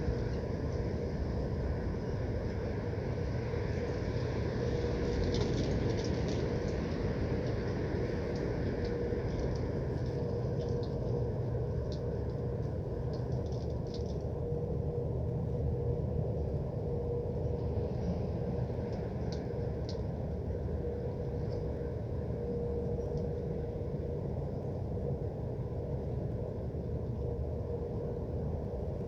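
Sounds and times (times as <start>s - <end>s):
low industrial rumble: 0.0s - 29.0s
thin humming tone: 0.0s - 29.0s.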